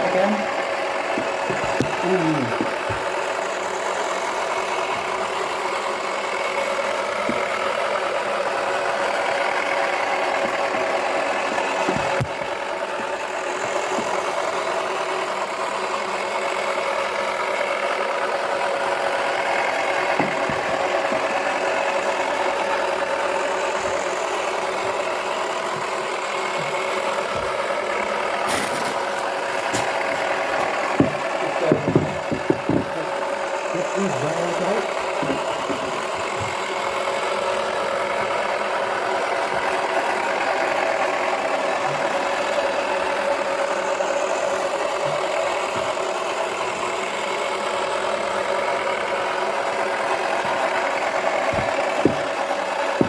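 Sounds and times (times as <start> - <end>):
small motor humming and whining: 0.0 - 53.0.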